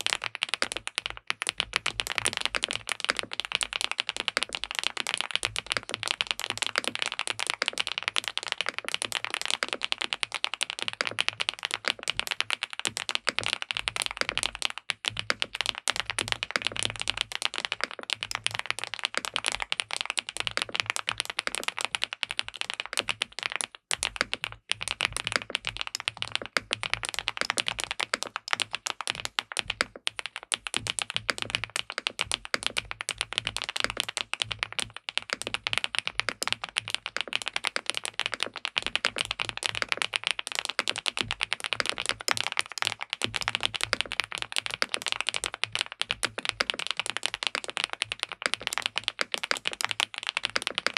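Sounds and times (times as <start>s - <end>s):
mechanical keyboard typing: 0.0s - 50.9s.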